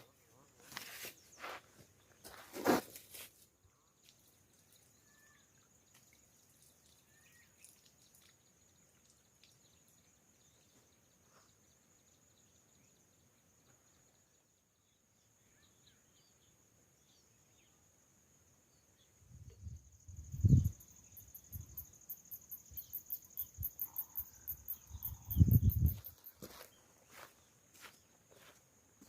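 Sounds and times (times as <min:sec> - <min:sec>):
crickets trilling: 0:00.0 - 0:17.7, 0:18.4 - 0:29.0
faint bird chirps: 0:03.6 - 0:18.0, 0:18.6 - 0:28.6.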